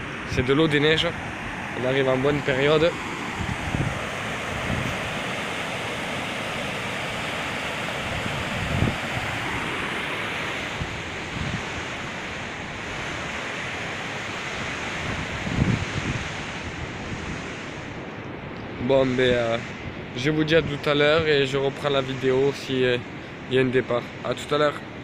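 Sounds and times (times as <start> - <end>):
wind buffeting microphone: 0.0 - 23.5
river white water rushing: 0.0 - 25.0.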